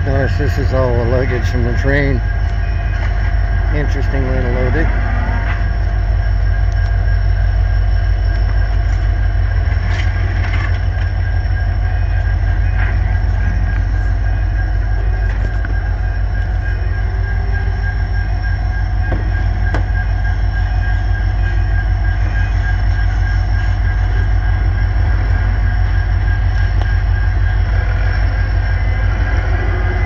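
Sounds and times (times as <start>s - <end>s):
diesel train rumble: 0.0s - 30.0s
high-pitched whine: 0.0s - 30.0s.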